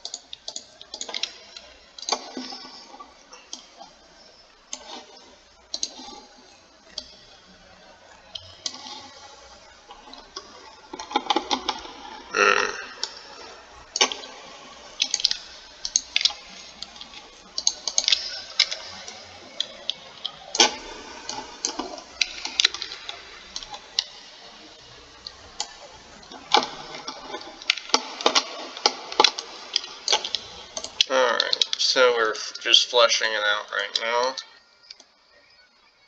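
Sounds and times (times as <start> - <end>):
keyboard and mouse clicking: 0.0 - 12.2, 12.8 - 31.8.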